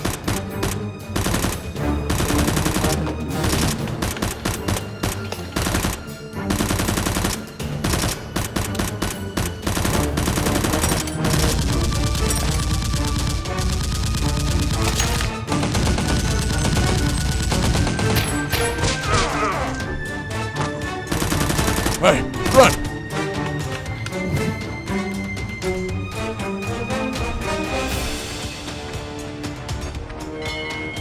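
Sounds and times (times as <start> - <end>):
background music: 0.0 - 31.0.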